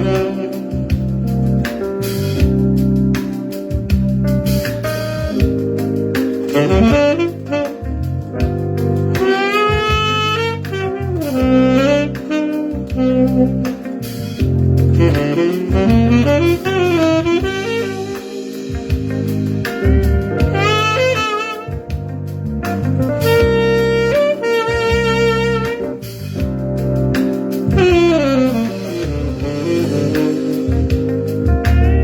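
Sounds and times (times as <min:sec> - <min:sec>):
light percussion: 0:00.0 - 0:32.0
tenor saxophone jazz melody: 0:00.0 - 0:32.0
walking bass line: 0:00.0 - 0:32.0.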